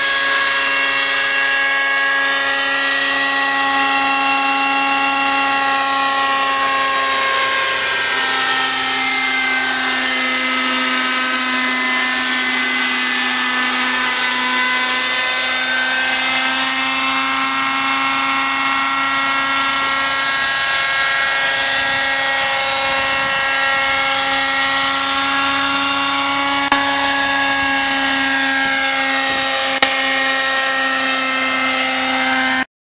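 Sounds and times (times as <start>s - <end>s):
model helicopter motor whine: 0.0s - 32.7s.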